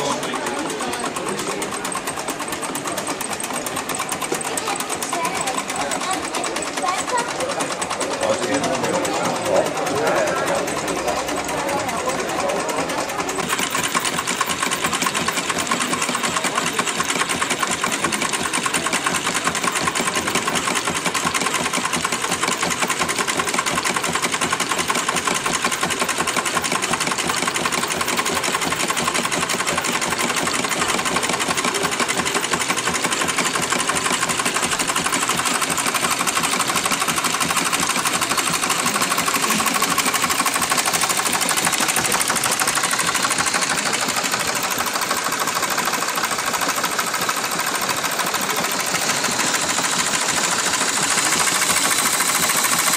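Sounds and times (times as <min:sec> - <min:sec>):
model steam engines clattering: 0:00.0 - 0:52.9.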